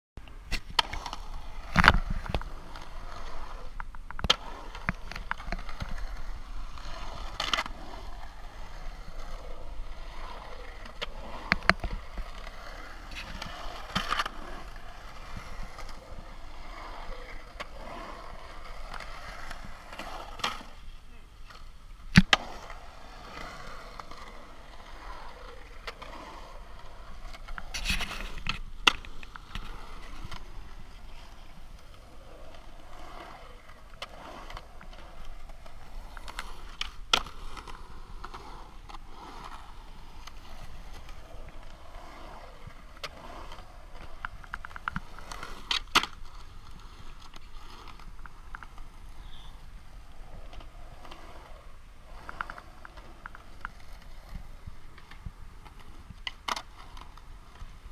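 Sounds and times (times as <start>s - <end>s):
skateboard wheels rolling on concrete: 0.2s - 57.9s
skateboard clacking on concrete: 0.3s - 57.9s.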